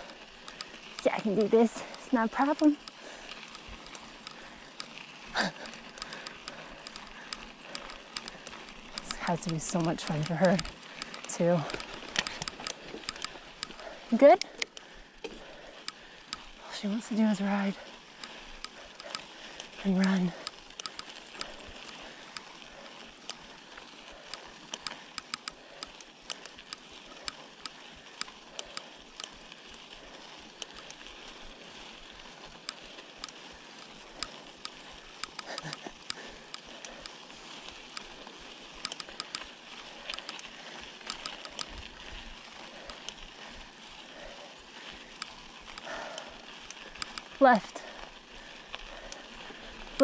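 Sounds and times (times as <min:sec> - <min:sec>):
sharp clicks and rattles: 0:00.0 - 0:48.1, 0:48.7 - 0:50.0
bike tyres rolling on dirt: 0:00.0 - 0:50.0.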